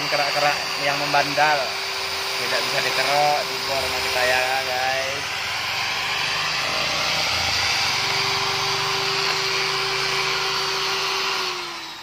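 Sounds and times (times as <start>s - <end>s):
electric drill with scrubbing brush: 0.0s - 12.0s.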